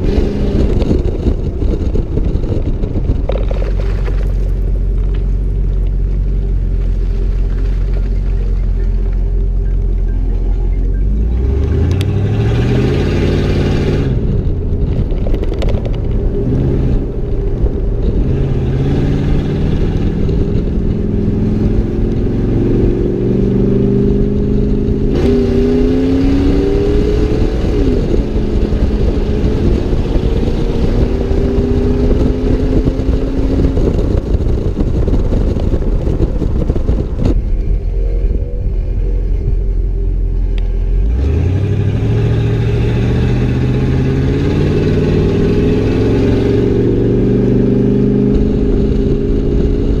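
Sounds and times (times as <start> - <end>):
engine accelerating through gears: 0.0 - 50.0.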